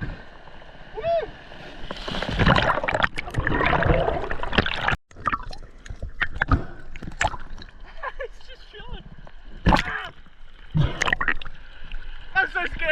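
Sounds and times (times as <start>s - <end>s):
water splashing and sloshing: 0.0s - 12.9s.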